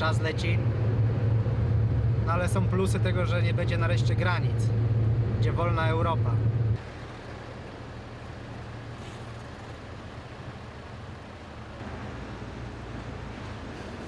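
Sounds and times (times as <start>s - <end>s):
car engines running at low speed: 0.0s - 14.0s.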